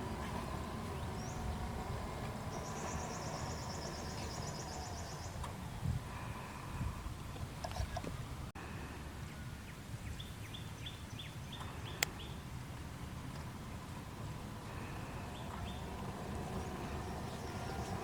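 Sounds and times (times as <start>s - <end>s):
songbird chirping: 0.0s - 8.5s, 9.2s - 12.6s, 13.3s - 18.0s.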